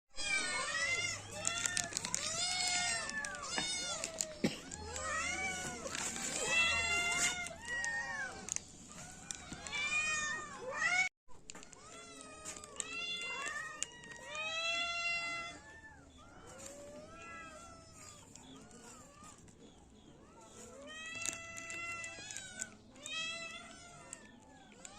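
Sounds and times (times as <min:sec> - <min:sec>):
kittens meowing: 0:00.2 - 0:24.9.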